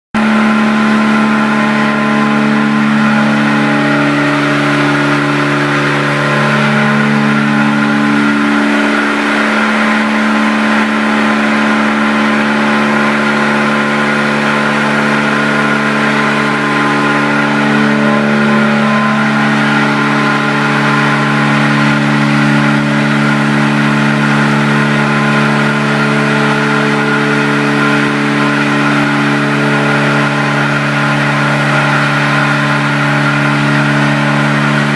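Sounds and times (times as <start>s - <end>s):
stone router motor whine: 0.2s - 34.9s.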